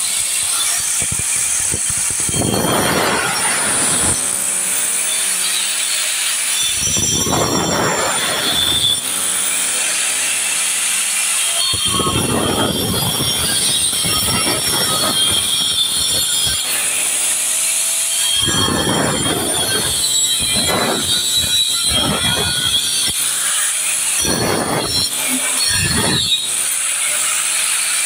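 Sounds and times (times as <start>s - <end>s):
angle grinder cutting masonry: 0.0s - 28.0s.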